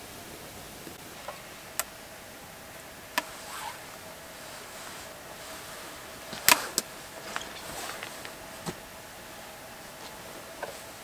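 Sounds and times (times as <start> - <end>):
faint steady hiss: 0.0 - 11.0
twig fire crackling: 0.1 - 11.0
fire popping: 0.5 - 10.8.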